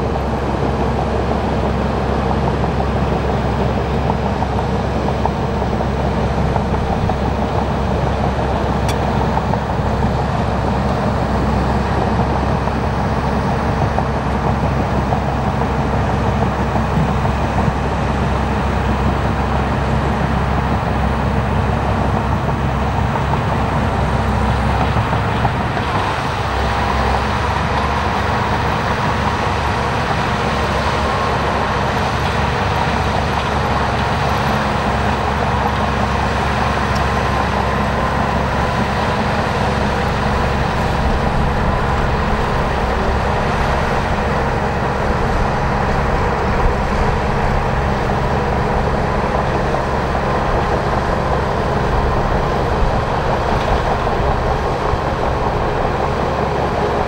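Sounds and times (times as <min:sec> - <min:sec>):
bulldozer engine droning: 0:00.0 - 0:57.0.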